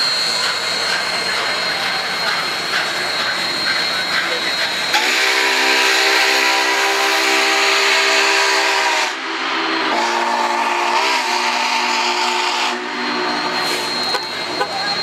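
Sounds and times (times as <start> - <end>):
steady steam hiss: 0.0 - 15.0
steam locomotive chime whistle: 0.0 - 15.0.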